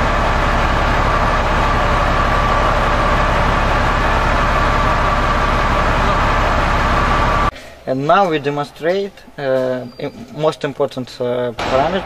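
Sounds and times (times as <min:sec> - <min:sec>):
tractor diesel engine idling: 0:00.0 - 0:10.1
steady whine: 0:00.0 - 0:10.3.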